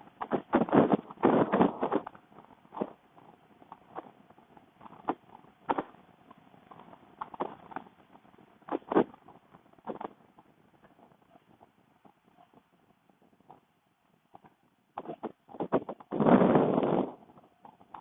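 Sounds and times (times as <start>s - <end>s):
wind buffeting microphone: 0.0s - 13.6s, 15.0s - 18.0s.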